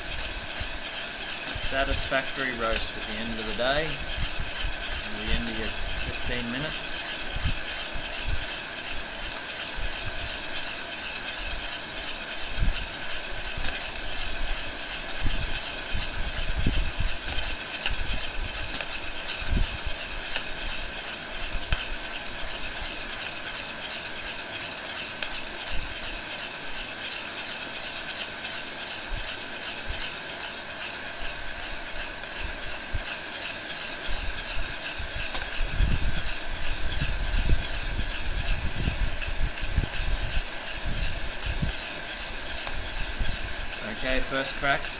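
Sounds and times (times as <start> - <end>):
beans rattling in metal bowl: 0.0 - 16.4, 17.1 - 44.9.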